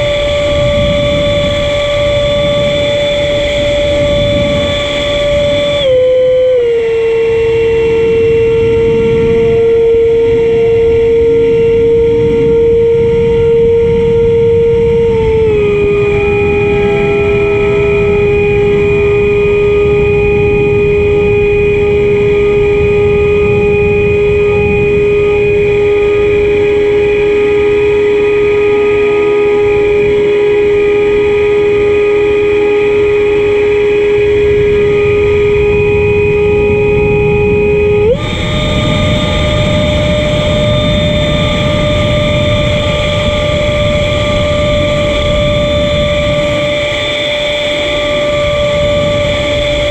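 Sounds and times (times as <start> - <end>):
electric motor and propeller whine: 0.0 - 49.9
wind buffeting microphone: 0.0 - 49.9.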